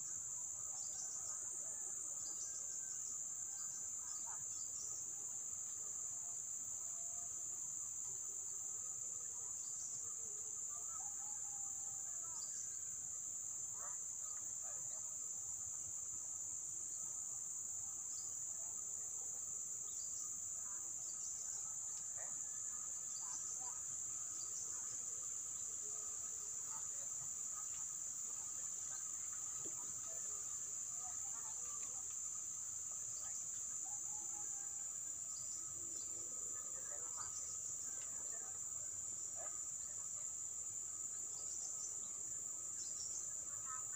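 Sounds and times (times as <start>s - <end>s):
shrill insect chorus: 0.0s - 43.9s.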